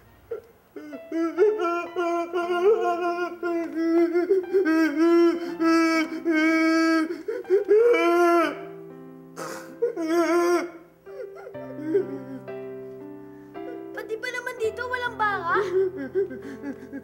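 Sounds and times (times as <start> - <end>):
soft sustained background music: 0.0 - 17.0.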